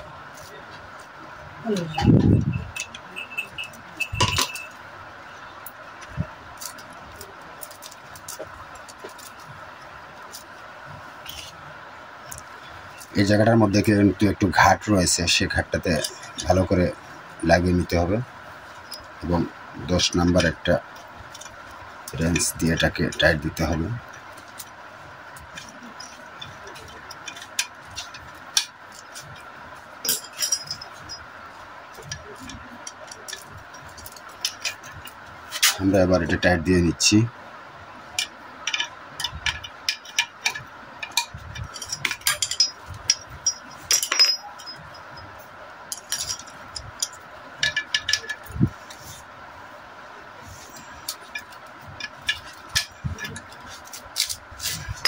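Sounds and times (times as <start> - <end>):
faint steady hum: 0.0 - 55.0
metal tools clinking on metal: 2.0 - 10.5, 12.2 - 37.3, 38.0 - 49.3, 50.4 - 55.0.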